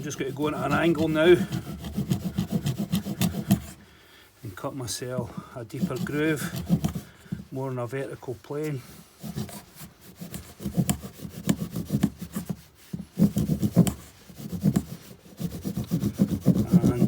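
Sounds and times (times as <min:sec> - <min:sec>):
saw rasping into green wood: 0:00.0 - 0:03.9, 0:05.1 - 0:07.5, 0:09.0 - 0:17.0.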